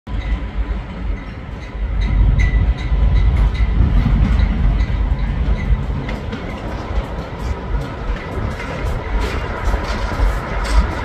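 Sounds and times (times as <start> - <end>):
freight train rumbling past: 0.1 - 11.0
wheels clicking over rail joints: 0.1 - 11.0.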